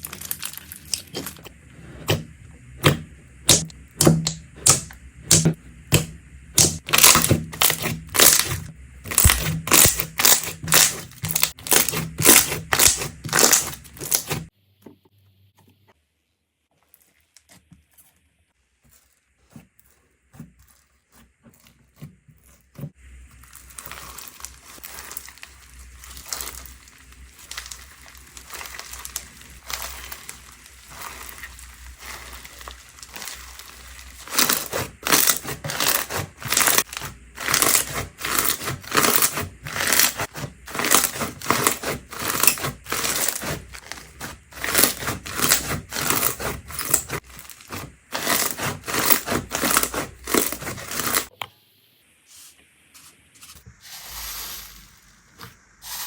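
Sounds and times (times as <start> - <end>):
slime squelching: 0.0 - 14.5, 16.8 - 51.3.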